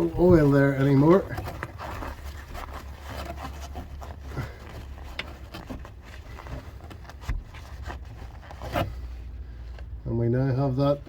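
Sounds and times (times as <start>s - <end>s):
scrapes and rubs: 0.0s - 10.0s.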